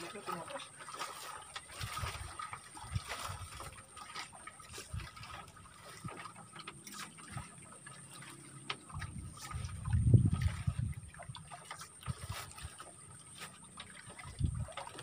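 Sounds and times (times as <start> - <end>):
water lapping against raft: 0.0 - 15.0.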